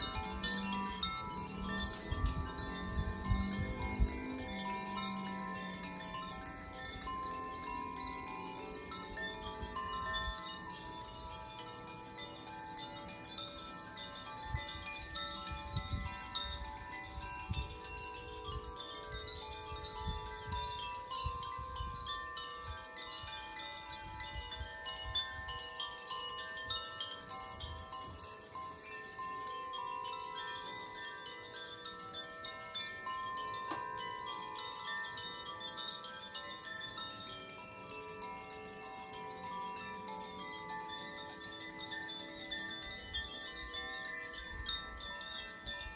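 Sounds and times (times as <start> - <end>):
wind chimes ringing: 0.0 - 45.9.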